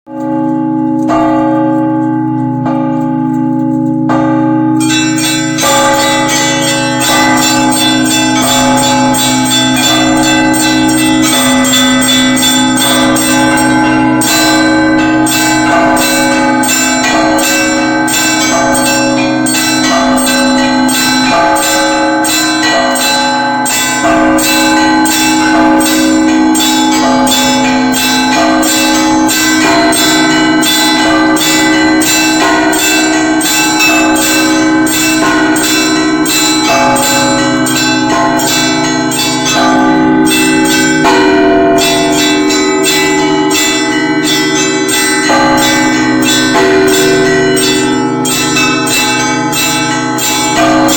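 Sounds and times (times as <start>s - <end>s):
deep church bells humming: 0.1s - 50.9s
small high bells ringing: 0.1s - 50.9s.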